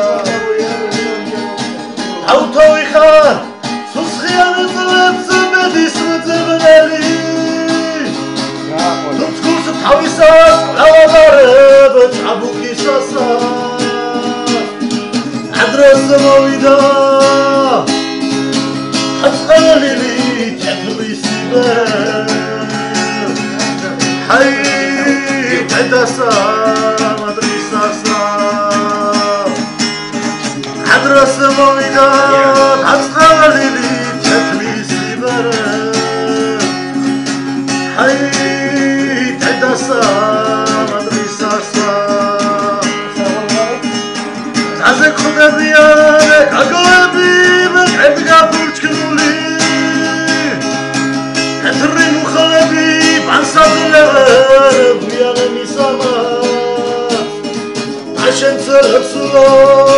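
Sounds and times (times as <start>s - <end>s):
man singing: 0.0s - 59.9s
strummed acoustic guitar: 0.0s - 59.9s.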